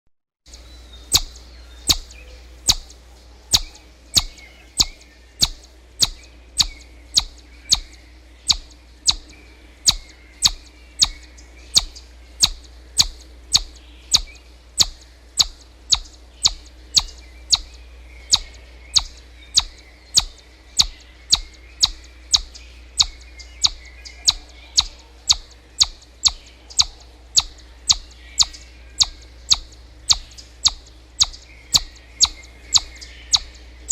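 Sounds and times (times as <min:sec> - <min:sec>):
bird chirping sharply: 0:00.5 - 0:33.9
birds twittering: 0:00.5 - 0:33.9
low steady hum: 0:00.5 - 0:33.9.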